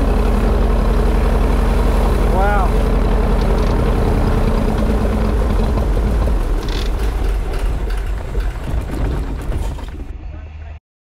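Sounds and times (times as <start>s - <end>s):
piston aircraft engine running: 0.0s - 10.1s
propeller winding down: 0.0s - 10.1s.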